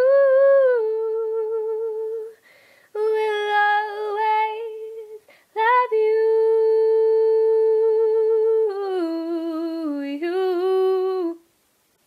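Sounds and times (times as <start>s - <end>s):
woman singing unaccompanied: 0.0s - 11.5s.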